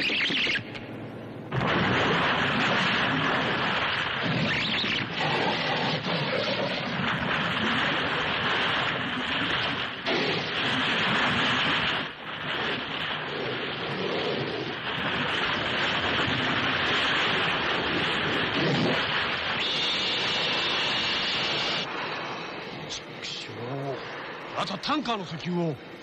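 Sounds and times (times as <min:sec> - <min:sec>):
churning splashing seawater: 0:01.5 - 0:25.7.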